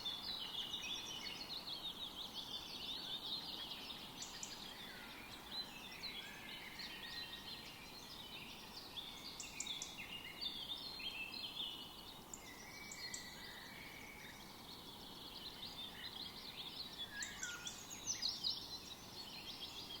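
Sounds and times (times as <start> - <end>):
birds chirping and trilling: 0.0 - 20.0
faint steady hiss: 0.0 - 20.0.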